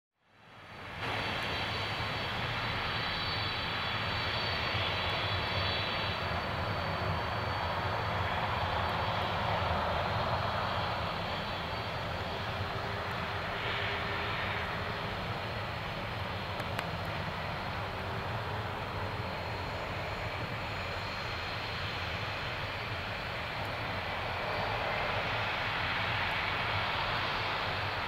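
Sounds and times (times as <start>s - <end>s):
high turbine whine: 0.3s - 28.0s
jet engines roaring: 0.6s - 28.0s.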